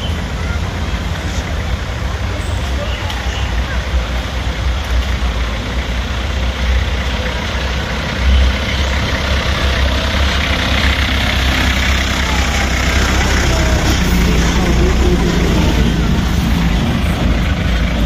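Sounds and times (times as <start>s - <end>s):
car engine low rumble: 0.0s - 18.0s.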